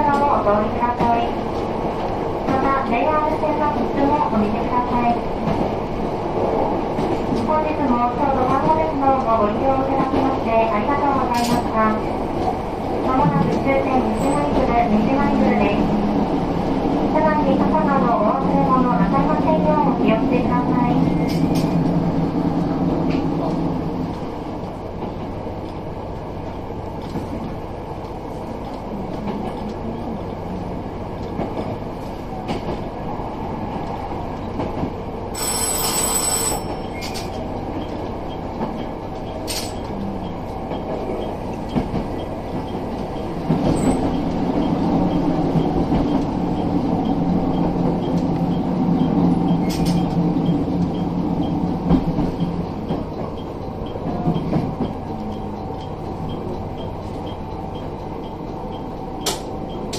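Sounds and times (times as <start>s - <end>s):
railcar rumbling along track: 0.0s - 59.9s.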